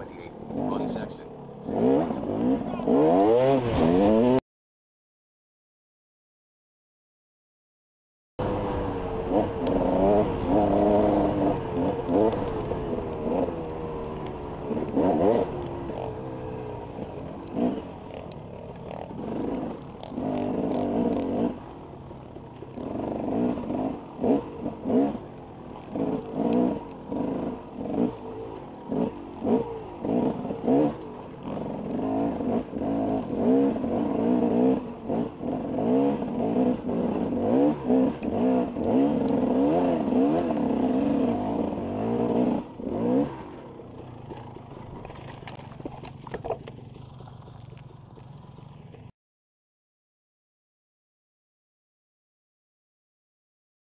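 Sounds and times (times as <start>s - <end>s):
dirt bike engine revving: 0.0s - 4.4s, 8.4s - 49.1s.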